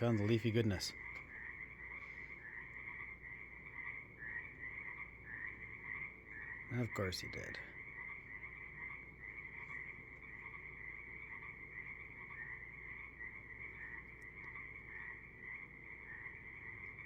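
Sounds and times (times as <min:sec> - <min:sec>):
chorus of frogs calling: 0:00.0 - 0:17.0.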